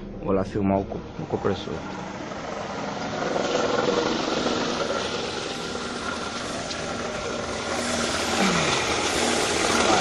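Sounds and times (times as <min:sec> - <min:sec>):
car engine idling: 0:00.0 - 0:10.0
compressor mechanical noise: 0:00.0 - 0:10.0.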